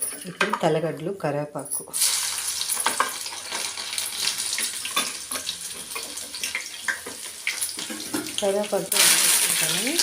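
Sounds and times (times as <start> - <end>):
garlic frying in hot oil: 1.9 - 10.0.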